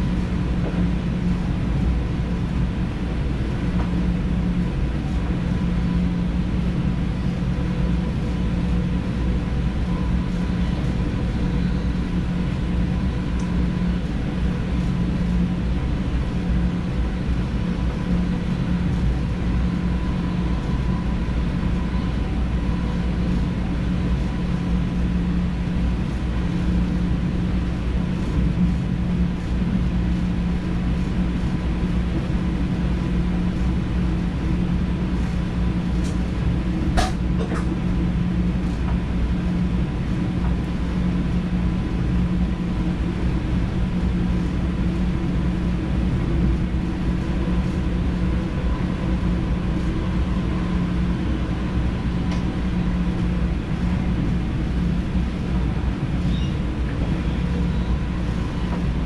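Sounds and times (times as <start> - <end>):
electrical hum: 0.0 - 59.0
train wheels rumbling on rail: 0.0 - 59.0.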